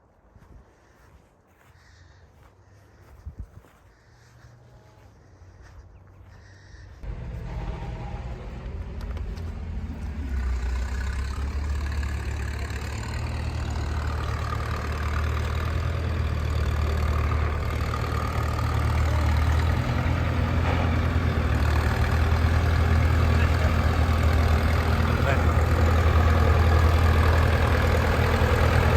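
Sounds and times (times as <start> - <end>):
vehicle engine humming: 4.0 - 28.9.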